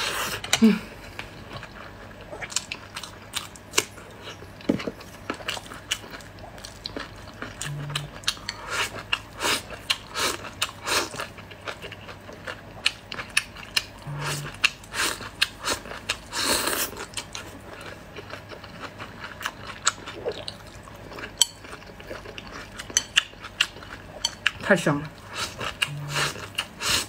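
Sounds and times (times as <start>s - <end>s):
person chewing food: 0.0s - 24.6s, 25.2s - 27.0s.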